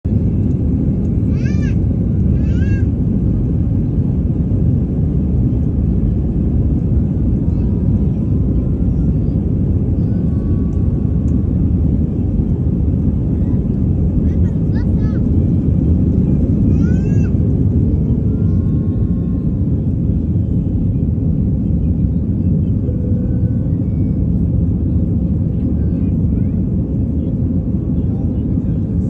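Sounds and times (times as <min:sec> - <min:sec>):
airliner cabin engine rumble: 0:00.0 - 0:29.0.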